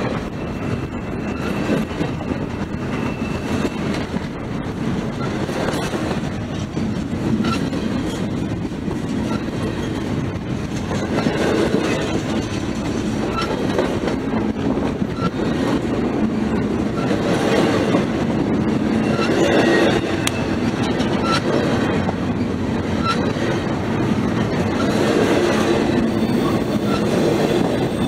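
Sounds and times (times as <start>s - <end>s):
train wheels rolling over rails: 0.0s - 28.0s.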